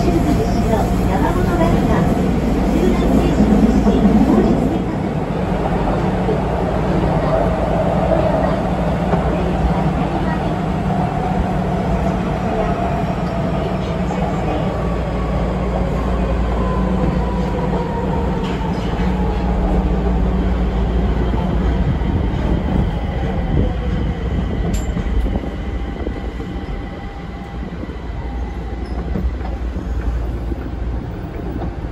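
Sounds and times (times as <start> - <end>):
subway train rumble and whine: 0.0 - 31.9.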